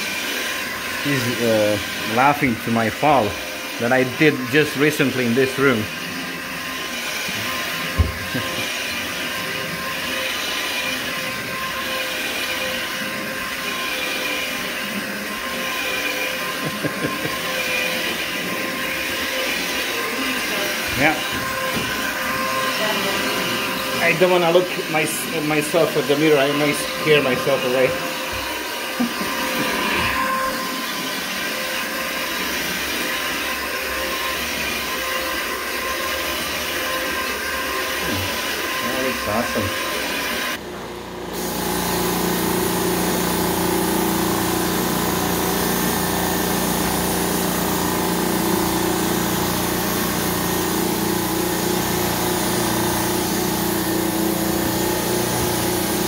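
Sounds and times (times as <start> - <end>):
carpet machine motor whine: 0.0 - 56.0.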